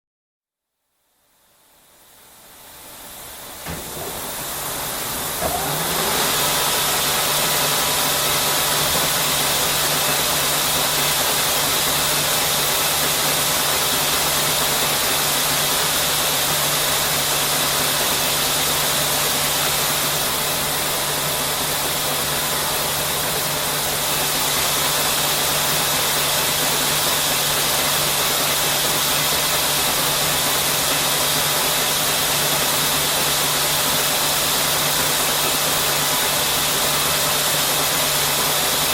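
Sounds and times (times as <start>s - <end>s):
knitting machine running: 3.6s - 38.9s.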